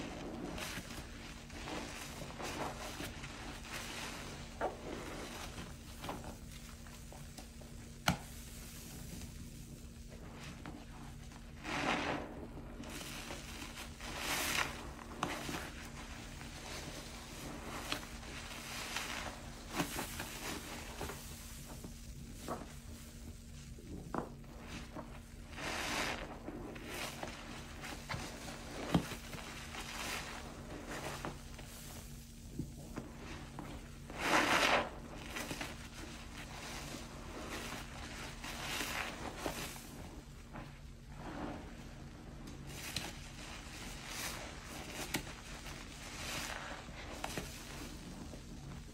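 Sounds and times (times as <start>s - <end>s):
sponge squelching: 0.0s - 48.9s.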